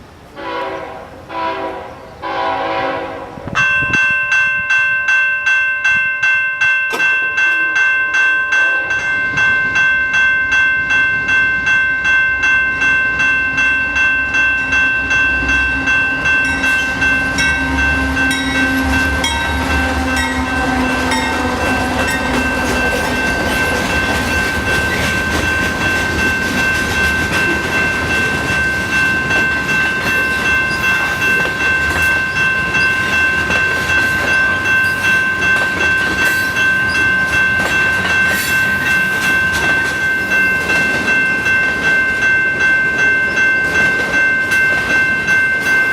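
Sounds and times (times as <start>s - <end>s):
train passing rumble: 0.0s - 4.8s, 6.9s - 45.9s
bell ringing rapidly: 3.6s - 45.9s.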